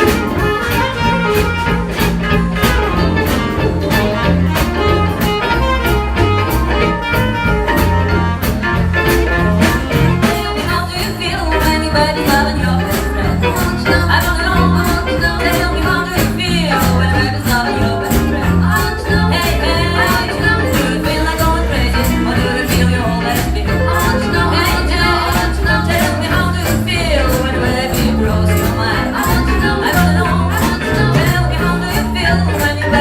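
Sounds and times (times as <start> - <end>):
bass: 0.0 - 33.0
drum beat: 0.0 - 33.0.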